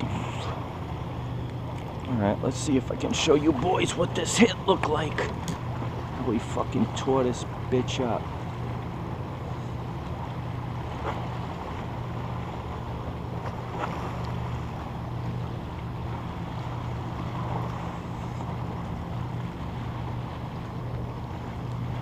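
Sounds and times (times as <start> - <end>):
low drone: 0.0 - 22.0
water moving around kayak: 0.0 - 22.0.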